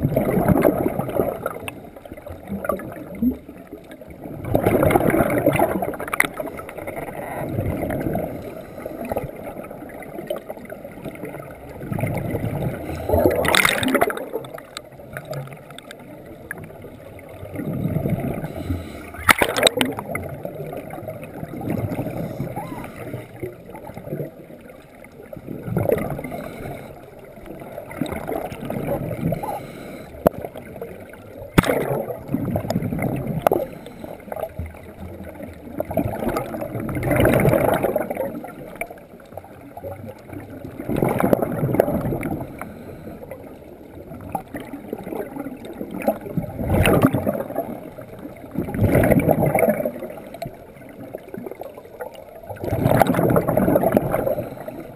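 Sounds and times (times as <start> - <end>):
underwater exhaust bubbles gurgling: 0.0 - 54.9.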